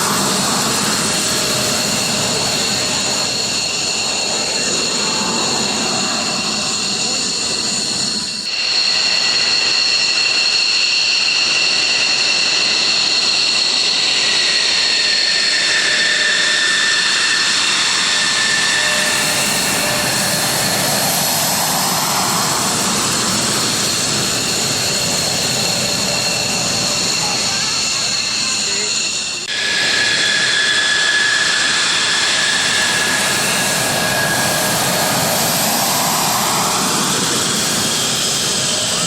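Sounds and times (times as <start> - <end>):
jet engines whining at idle: 0.0 - 39.0.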